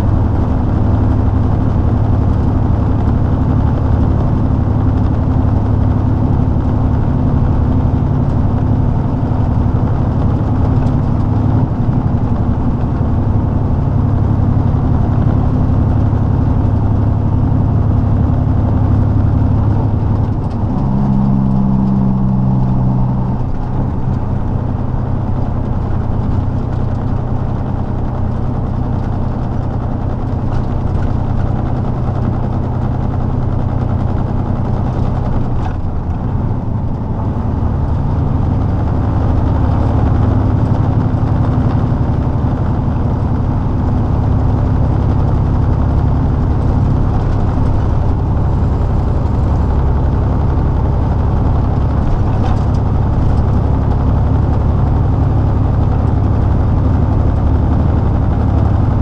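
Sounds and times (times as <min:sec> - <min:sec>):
diesel truck engine drone: 0:00.0 - 0:59.0
road noise: 0:00.0 - 0:59.0.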